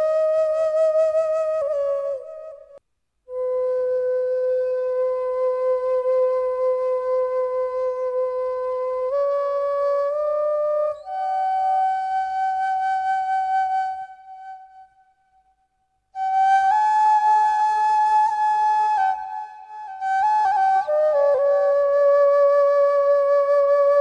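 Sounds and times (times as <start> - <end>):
slow flute-like wind melody: 0.0 - 15.5, 16.1 - 24.0.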